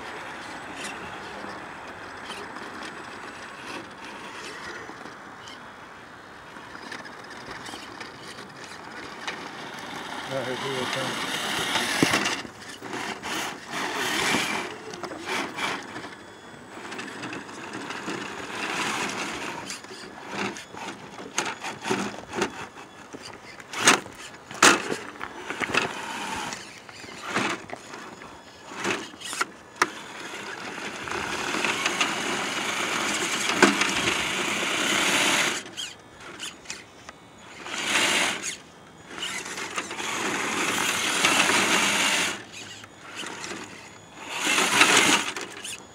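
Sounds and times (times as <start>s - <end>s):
toy car electric motor whirring: 0.0s - 45.9s.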